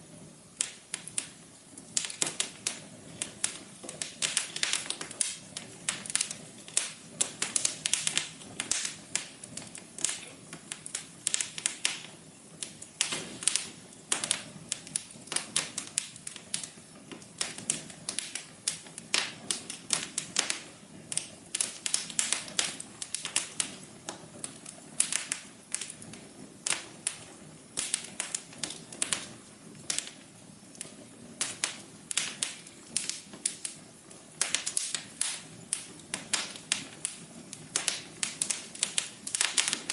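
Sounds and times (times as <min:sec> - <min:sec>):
soft low hiss: 0:00.0 - 0:39.9
wood fire crackling: 0:00.0 - 0:39.9.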